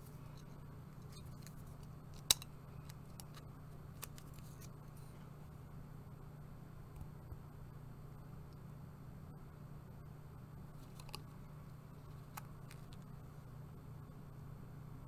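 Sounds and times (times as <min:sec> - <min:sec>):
low room tone hum: 0:00.0 - 0:15.0.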